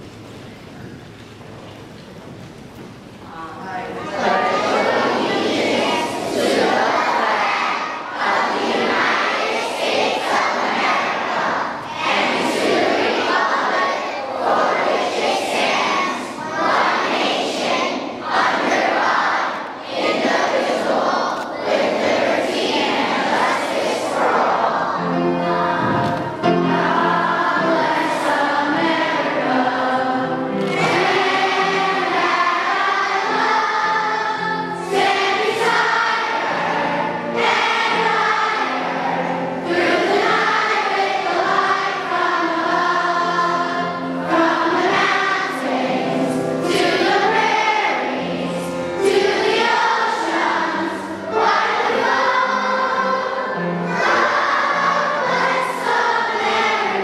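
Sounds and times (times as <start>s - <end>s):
children singing together: 3.6s - 57.0s.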